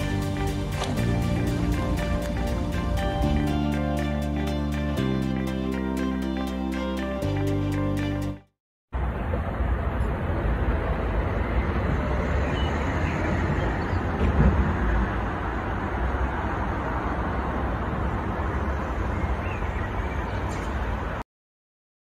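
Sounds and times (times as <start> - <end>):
steady rushing city noise: 0.0 - 8.4, 9.0 - 21.2.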